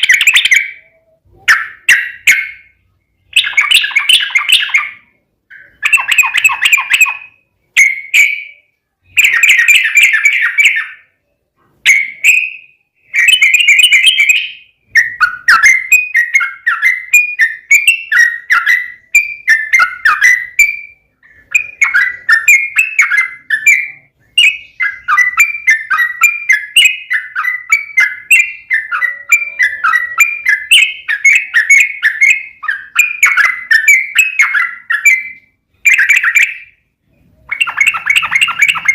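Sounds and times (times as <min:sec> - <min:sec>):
bird singing chattering song: 0:00.0 - 0:38.9.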